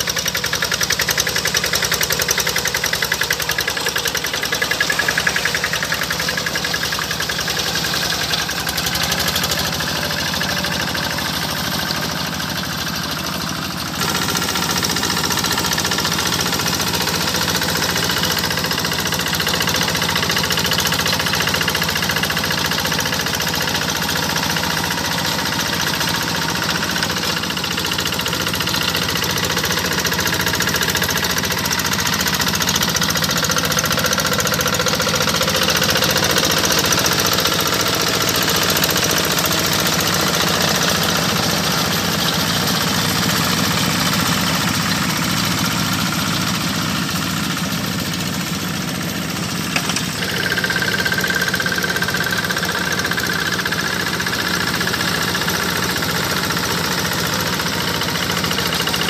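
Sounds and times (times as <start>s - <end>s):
diesel tractor engine knocking: 0.0s - 59.0s.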